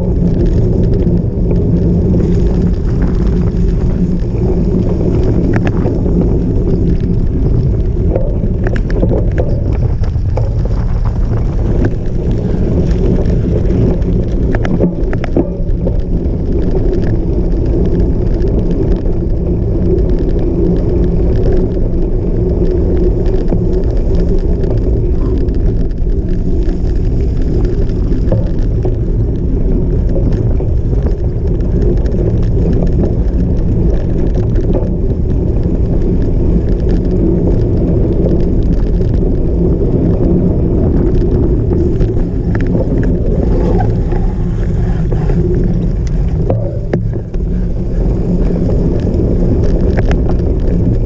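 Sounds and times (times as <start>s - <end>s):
bike rattling over rough ground: 0.0s - 51.0s
wind rushing on microphone: 0.0s - 51.0s.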